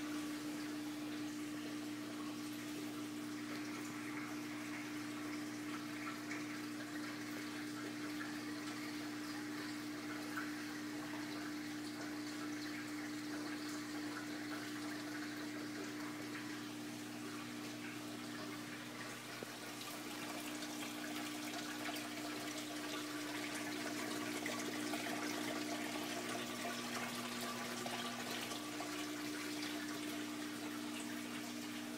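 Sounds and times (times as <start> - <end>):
pump humming: 0.0 - 31.9
water circulating in aquarium: 0.0 - 31.9.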